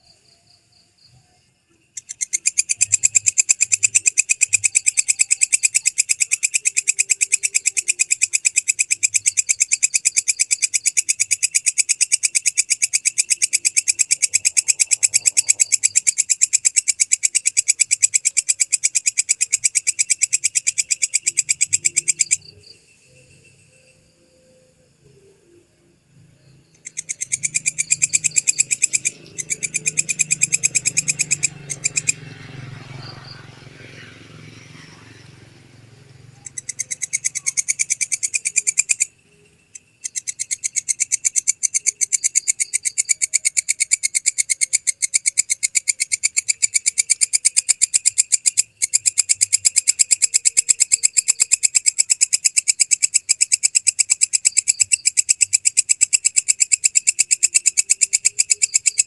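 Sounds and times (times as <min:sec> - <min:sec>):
katydid ticking chirp: 0:00.0 - 0:59.0.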